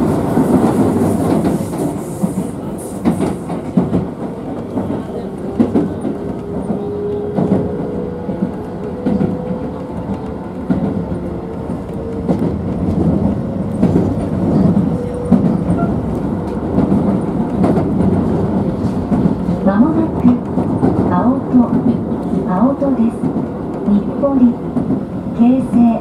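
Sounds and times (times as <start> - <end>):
steady train whine: 0.0 - 26.0
train wheels rumbling on rails: 0.0 - 26.0.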